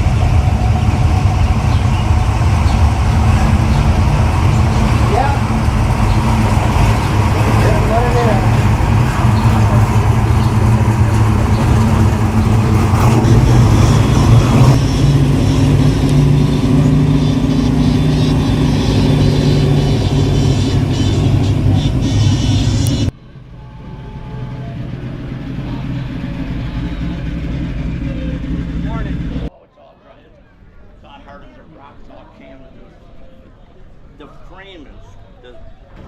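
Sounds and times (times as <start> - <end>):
car engine rumbling: 0.0 - 29.5.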